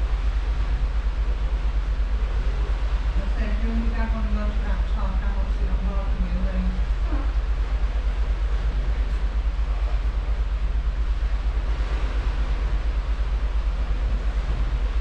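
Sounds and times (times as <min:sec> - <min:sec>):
rushing wake water: 0:00.0 - 0:15.0
ship engine rumble and throb: 0:00.0 - 0:15.0.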